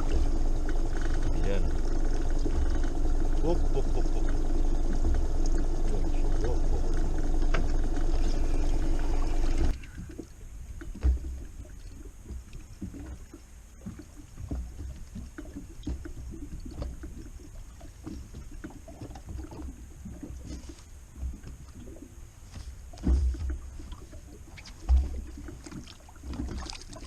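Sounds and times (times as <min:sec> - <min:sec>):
boat motor running: 0:00.0 - 0:27.0
water lapping against hull: 0:00.0 - 0:27.0.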